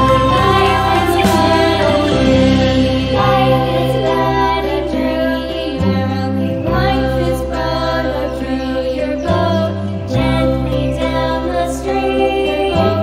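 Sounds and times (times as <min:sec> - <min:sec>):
children's nursery rhyme music: 0:00.0 - 0:13.0.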